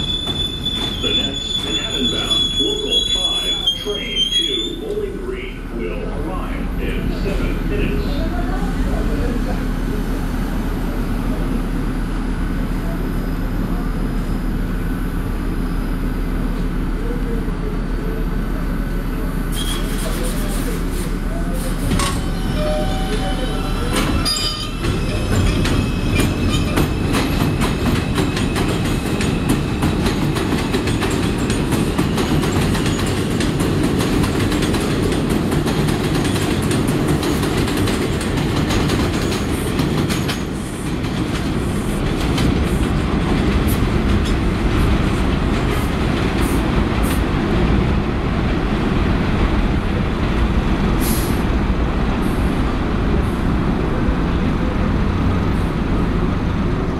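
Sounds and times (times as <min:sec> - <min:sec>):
subway train rumble: 0:00.0 - 0:56.9.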